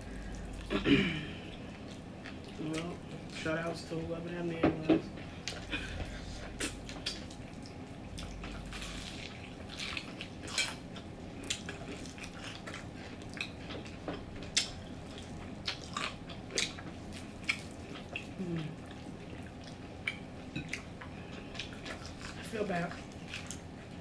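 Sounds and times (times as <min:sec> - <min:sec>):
crisp chewing of fried chicken: 0:00.0 - 0:04.4, 0:05.2 - 0:24.0
steady low hum: 0:00.0 - 0:24.0.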